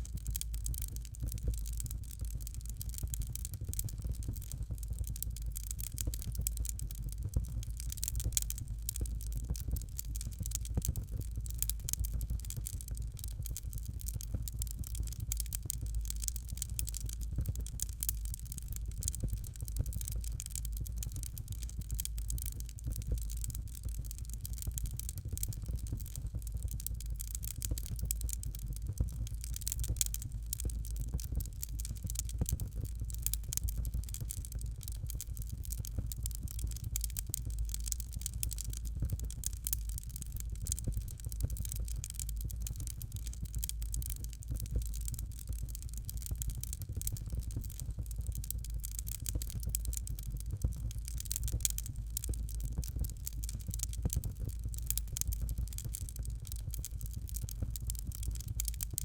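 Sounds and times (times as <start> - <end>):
fireplace fire crackling: 0.0 - 59.0
low fire rumble: 0.0 - 59.0.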